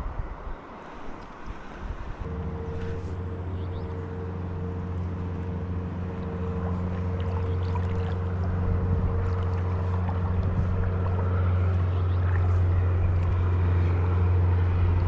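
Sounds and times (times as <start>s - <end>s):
boat motor running: 2.2s - 15.0s.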